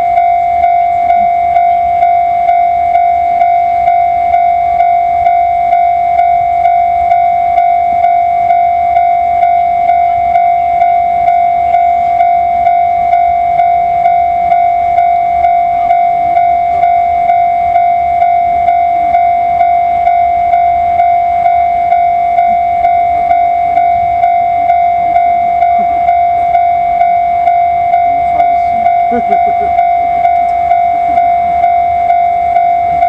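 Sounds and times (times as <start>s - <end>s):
level crossing bell ringing: 0.0s - 33.0s.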